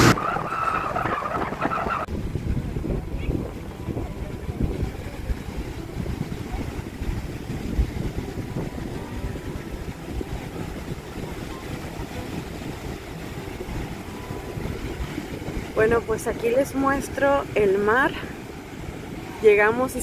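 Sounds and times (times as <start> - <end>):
sea surf washing: 0.0 - 20.0
wind buffeting microphone: 0.0 - 20.0.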